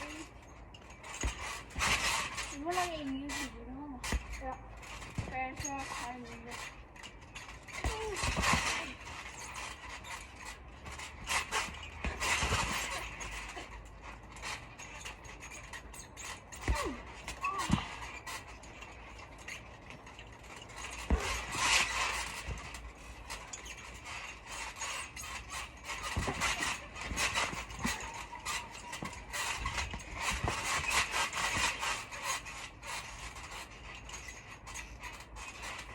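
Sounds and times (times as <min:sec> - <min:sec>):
short falling squeaks: 0:00.0 - 0:35.9
trampoline springs creaking: 0:00.0 - 0:35.9.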